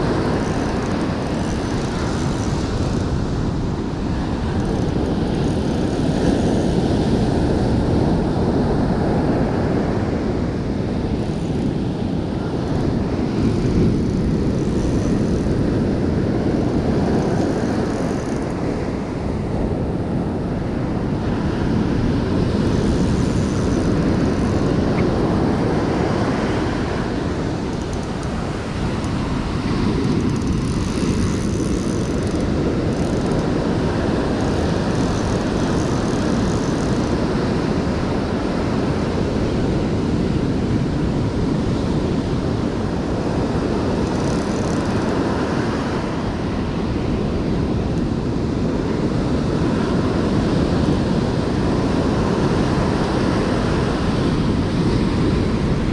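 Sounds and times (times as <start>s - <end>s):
wind rumble on microphone: 0.0s - 55.9s.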